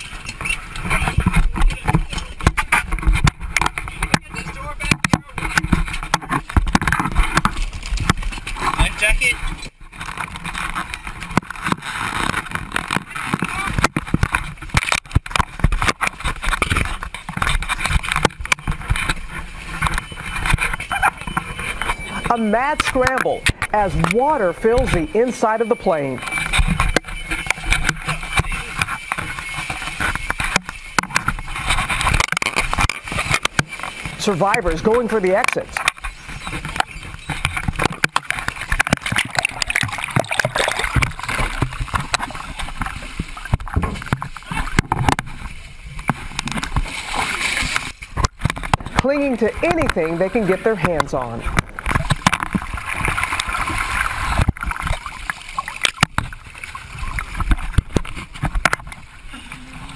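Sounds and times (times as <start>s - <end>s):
water sloshing and splashing: 0.0s - 59.9s.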